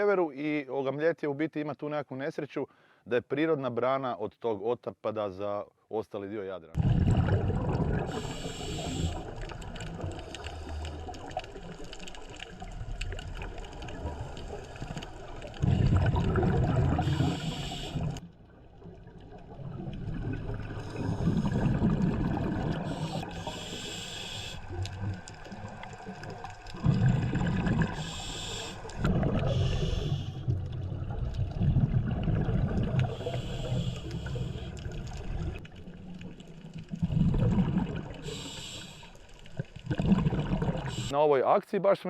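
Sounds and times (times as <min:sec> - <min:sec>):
sea water sloshing: 0:06.8 - 0:41.1
hissing bubbles: 0:06.8 - 0:41.2.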